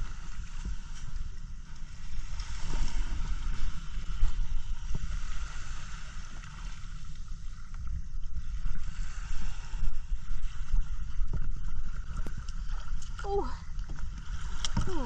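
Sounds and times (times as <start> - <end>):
sea water splashing: 0.0 - 15.0
wind rumbling on microphone: 0.0 - 15.0.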